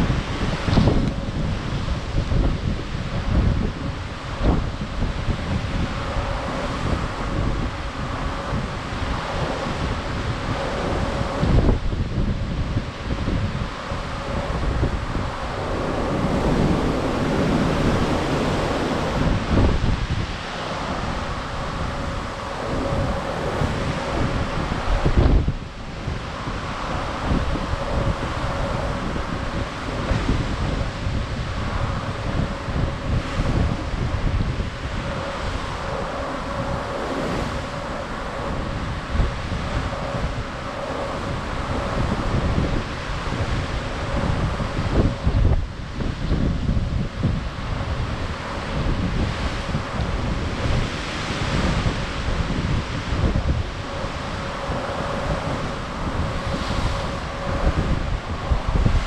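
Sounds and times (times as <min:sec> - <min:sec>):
faint steady hum: 0:00.0 - 0:59.0
sea rushing: 0:00.0 - 0:59.0
wind buffeting microphone: 0:00.0 - 0:59.0.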